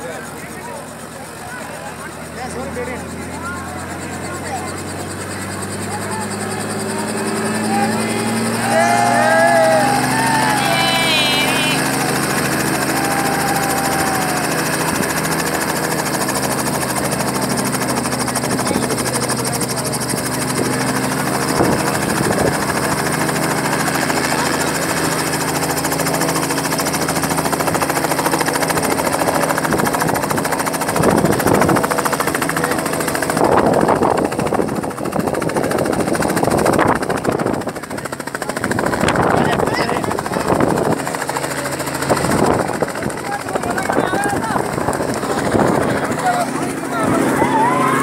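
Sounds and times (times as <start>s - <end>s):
helicopter engine and rotor drone: 0.0s - 48.0s.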